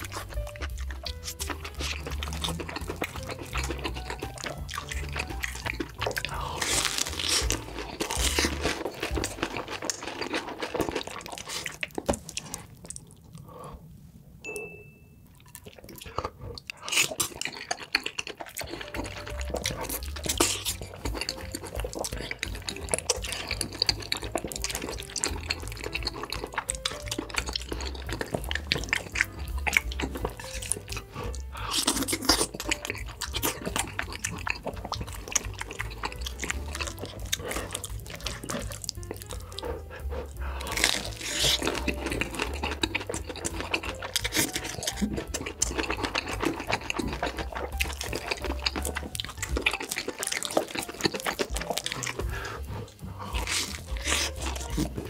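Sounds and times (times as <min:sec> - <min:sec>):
background music: 0:00.0 - 0:11.5, 0:16.9 - 0:55.0
wet sticky mouth sounds: 0:00.0 - 0:13.6, 0:15.3 - 0:55.0
chewing and crunching food: 0:00.0 - 0:13.9, 0:15.2 - 0:55.0.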